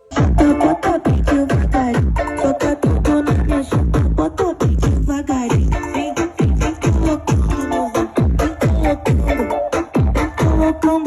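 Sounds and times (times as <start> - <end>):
electronic dance music: 0.0 - 11.0
deep kick drum: 0.1 - 7.6, 8.2 - 9.4, 10.0 - 10.8.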